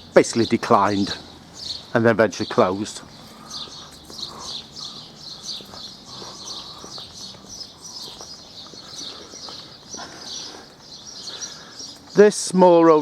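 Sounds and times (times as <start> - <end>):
distant traffic hum: 0.0 - 13.0
small birds chirping: 0.0 - 13.0.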